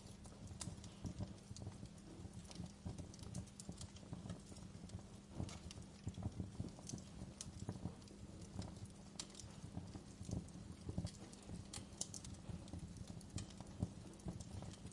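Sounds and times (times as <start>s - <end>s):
low rumble of burning: 0.0s - 14.9s
wood fire crackling: 0.0s - 14.9s.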